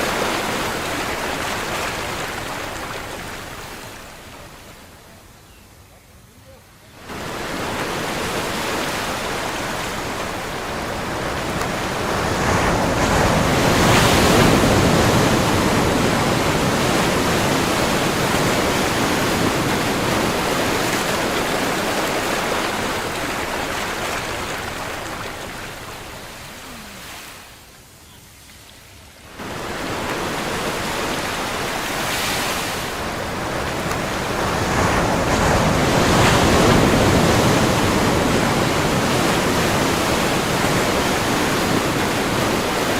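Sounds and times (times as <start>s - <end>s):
ocean waves breaking: 0.0s - 5.0s, 7.0s - 27.6s, 29.2s - 42.9s.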